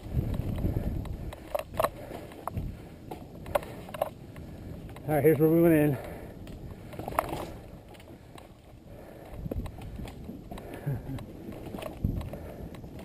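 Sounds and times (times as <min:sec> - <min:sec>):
bike knocks and rattles: 0:00.0 - 0:13.0
bike tyres on dirt trail: 0:00.0 - 0:13.0.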